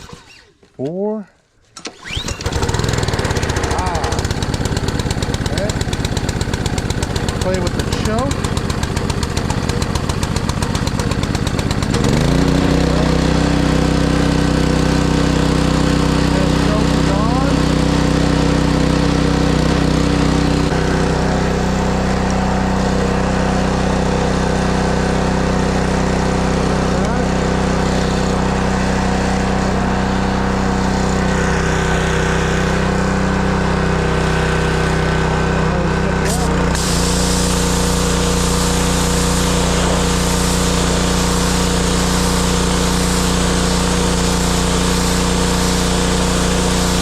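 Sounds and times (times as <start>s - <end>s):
small engine running: 1.8s - 47.0s.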